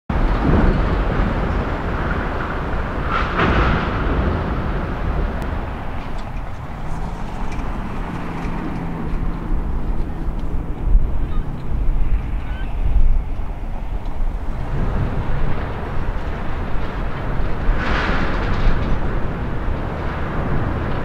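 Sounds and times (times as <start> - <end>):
road traffic rumble: 0.1 - 21.0.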